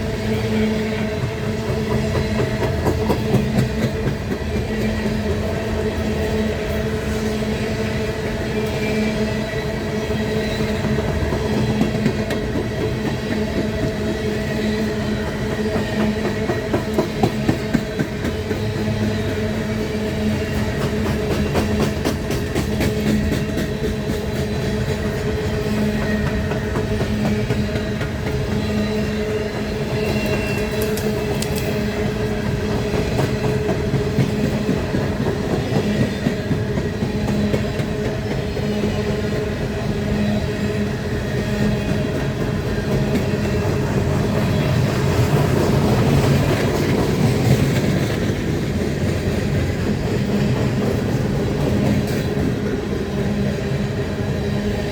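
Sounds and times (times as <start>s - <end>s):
train rumble with hum: 0.0s - 54.9s
train wheels clattering on rails: 0.0s - 54.9s.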